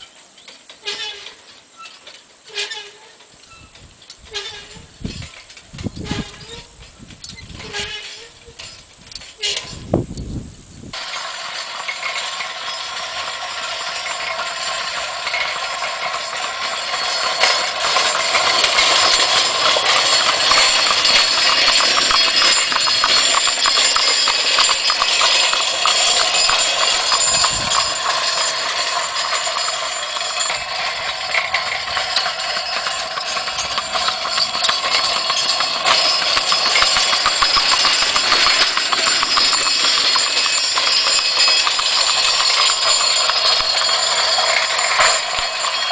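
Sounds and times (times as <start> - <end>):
farm implement clattering: 0.4 - 45.9.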